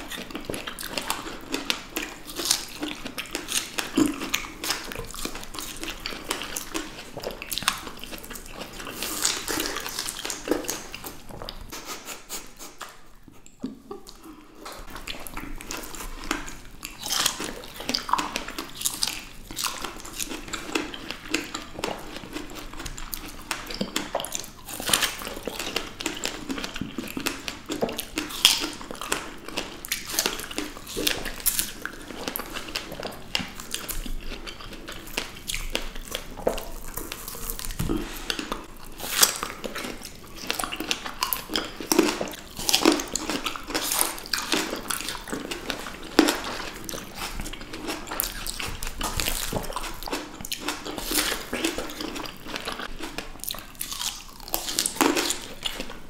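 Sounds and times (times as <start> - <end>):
biting and chewing strawberries: 0.0 - 56.0.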